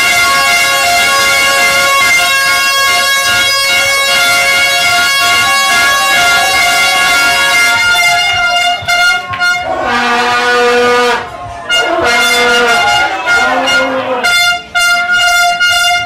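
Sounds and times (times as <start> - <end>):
air horn blast: 0.0 - 16.0
lower fan horn blaring: 0.0 - 16.0.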